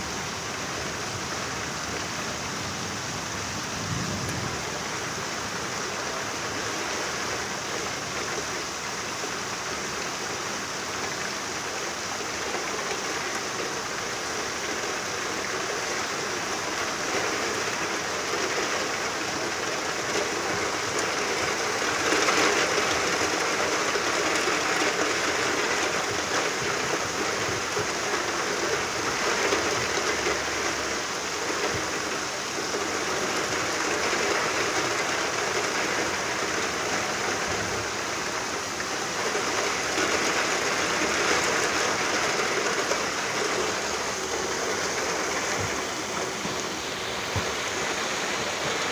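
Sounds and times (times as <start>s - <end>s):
steady rainfall: 0.0s - 48.9s.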